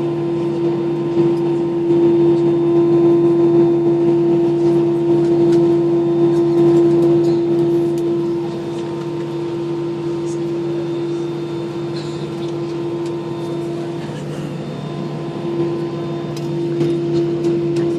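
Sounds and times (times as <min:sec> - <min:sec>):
airliner cabin hum: 0:00.0 - 0:17.9.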